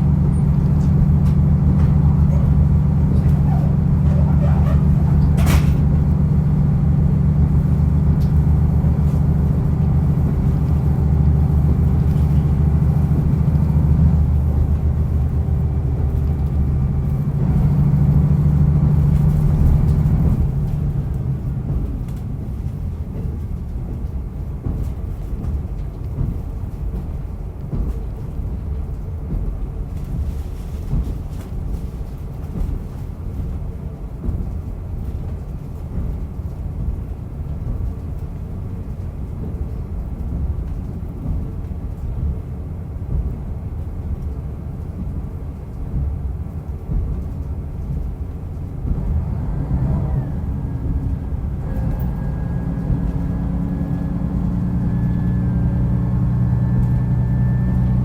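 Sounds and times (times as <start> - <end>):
railcar engine drone: 0.0 - 58.0
train coasting on rails: 0.0 - 58.0.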